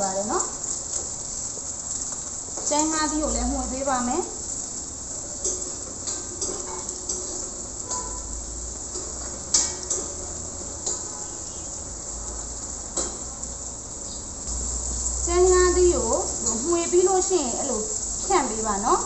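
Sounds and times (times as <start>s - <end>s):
vegetables sizzling in a wok: 0.0s - 19.0s.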